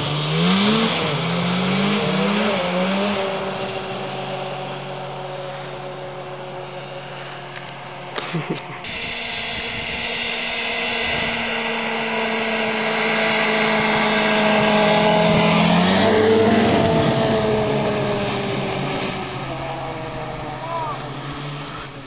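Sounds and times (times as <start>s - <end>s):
snowmobile engine passing by: 0.0s - 22.0s.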